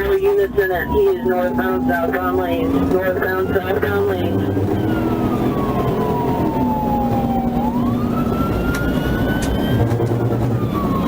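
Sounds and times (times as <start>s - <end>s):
car engine and road noise: 0.0s - 11.0s
police siren wailing: 0.0s - 11.0s.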